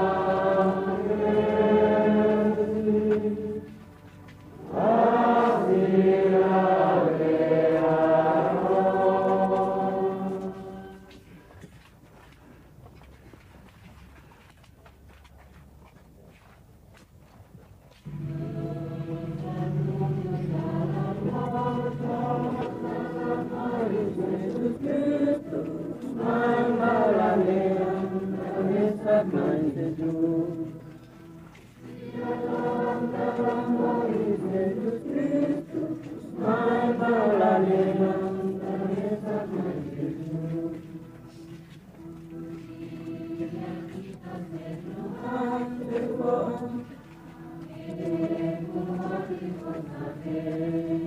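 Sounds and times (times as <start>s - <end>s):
crowd singing: 0.0s - 3.9s, 4.6s - 11.2s, 18.1s - 51.0s.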